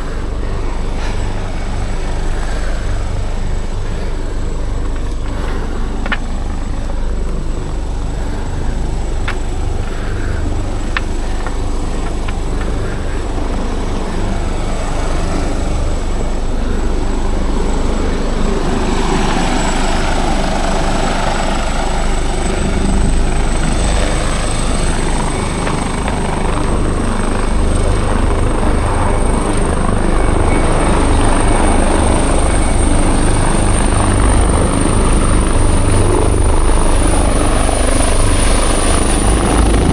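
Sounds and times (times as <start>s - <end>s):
helicopter rumble: 0.0s - 39.9s
high helicopter whine: 0.0s - 39.9s.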